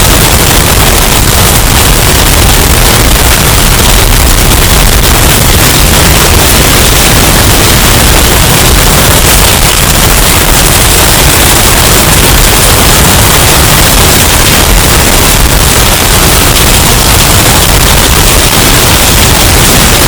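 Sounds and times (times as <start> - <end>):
distorted hurricane wind: 0.0 - 20.0.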